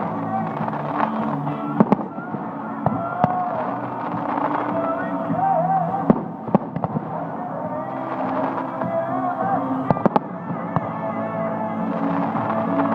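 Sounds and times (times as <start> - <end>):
crowd voices: 0.0 - 12.9
festival music: 0.0 - 12.9
fireworks bangs: 0.0 - 12.9.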